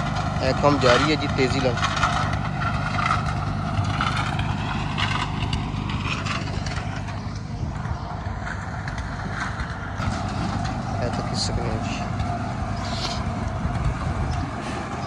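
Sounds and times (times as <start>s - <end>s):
construction machine engine running: 0.0s - 15.0s.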